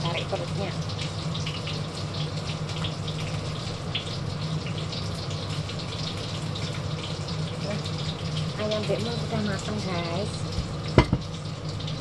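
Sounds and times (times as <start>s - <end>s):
chicken frying in hot oil: 0.0s - 12.0s
extractor fan hum: 0.0s - 12.0s.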